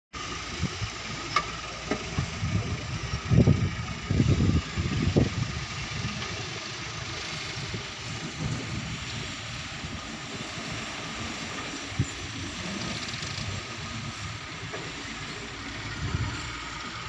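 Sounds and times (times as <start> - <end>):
excavator engine running: 0.2 - 17.0.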